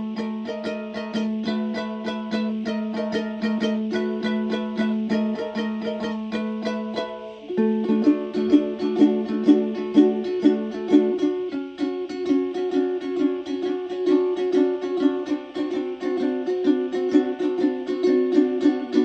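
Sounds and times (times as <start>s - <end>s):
plucked string instrument: 0.0s - 19.0s.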